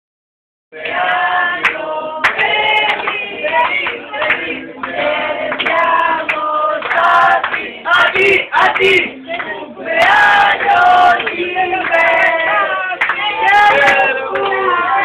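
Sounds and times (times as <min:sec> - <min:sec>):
group singing a birthday song: 0:00.7 - 0:15.0.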